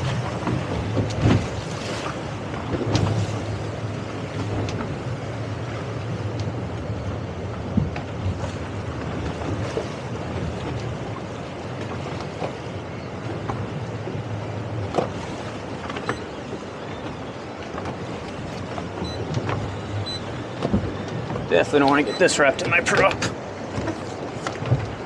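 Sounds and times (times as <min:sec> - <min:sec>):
boat engine humming: 0:00.0 - 0:25.0
hull knocking on waves: 0:00.0 - 0:25.0
wind and water rushing: 0:00.0 - 0:25.0.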